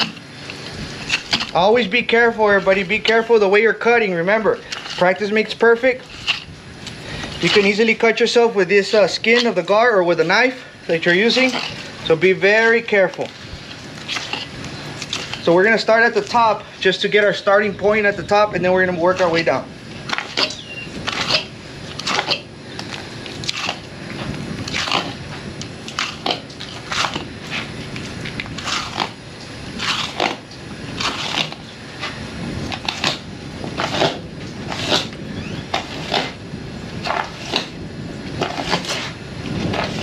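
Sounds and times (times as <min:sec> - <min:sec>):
blade crunching through fish skin: 0:00.0 - 0:01.8, 0:04.6 - 0:08.0, 0:10.5 - 0:16.7, 0:19.2 - 0:40.0.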